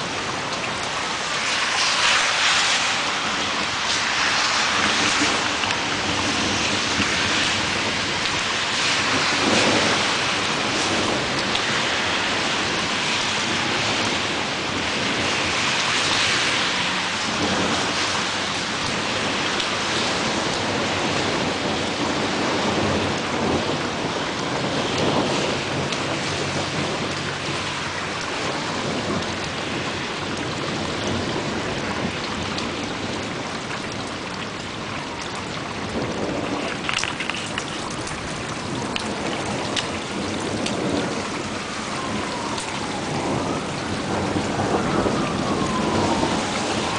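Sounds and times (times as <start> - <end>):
rain splashing on surfaces: 0.0 - 46.9
thunder rumbling: 2.8 - 46.9.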